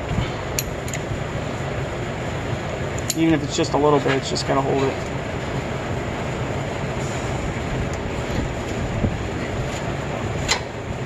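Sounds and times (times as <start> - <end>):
machine drone with low hum: 0.0 - 11.0.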